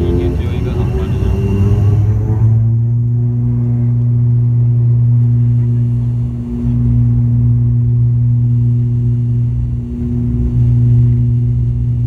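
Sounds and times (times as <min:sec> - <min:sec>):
turboprop engine drone in cabin: 0:00.0 - 0:12.0.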